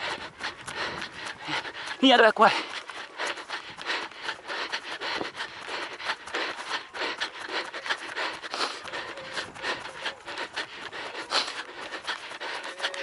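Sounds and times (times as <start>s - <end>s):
footsteps on dirt trail: 0.0s - 13.0s
heavy breathing: 0.0s - 13.0s.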